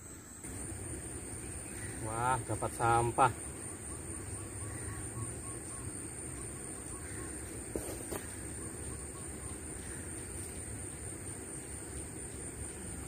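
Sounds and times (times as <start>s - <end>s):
outdoor background noise: 0.0s - 13.0s
faint bird calls: 1.4s - 13.0s.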